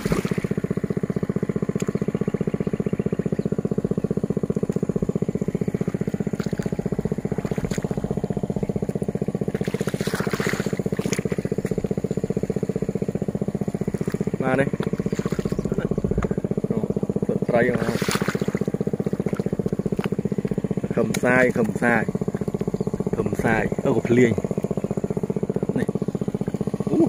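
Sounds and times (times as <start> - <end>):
small engine puttering: 0.0 - 27.0.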